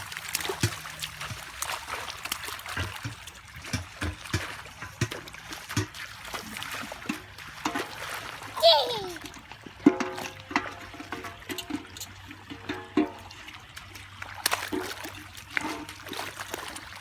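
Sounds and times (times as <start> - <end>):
low plopping plunks: 0.0 - 17.0
stream water splashing: 0.0 - 17.0.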